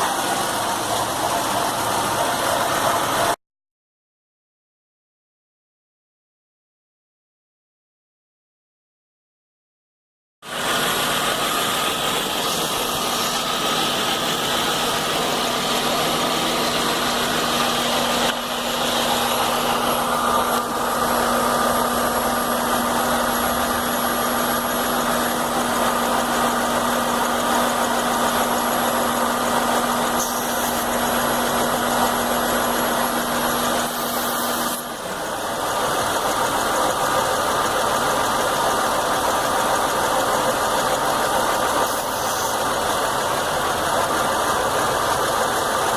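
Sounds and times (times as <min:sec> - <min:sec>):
engine idling roughly: 0:00.0 - 0:03.4, 0:10.4 - 0:45.9.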